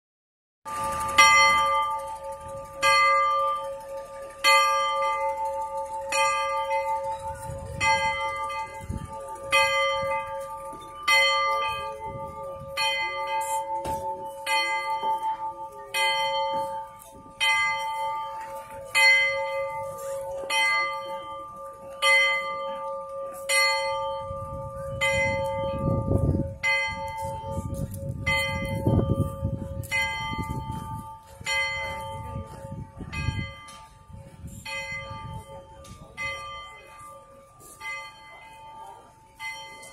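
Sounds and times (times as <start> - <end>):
steam locomotive bell ringing: 0.7 - 39.9.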